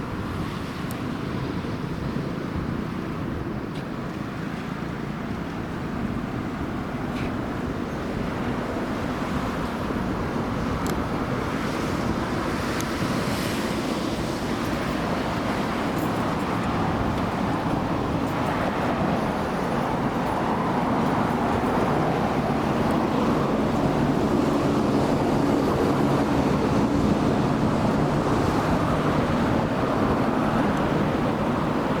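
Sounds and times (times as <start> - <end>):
vehicle running noise: 0.0 - 32.0.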